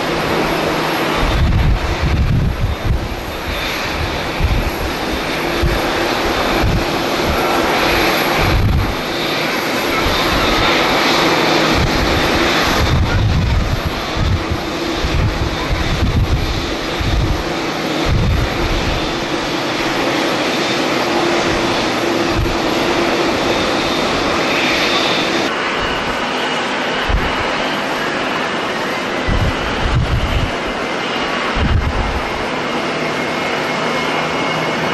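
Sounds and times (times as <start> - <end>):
jet engines roaring: 0.0 - 34.9
wind buffeting microphone: 0.0 - 34.9.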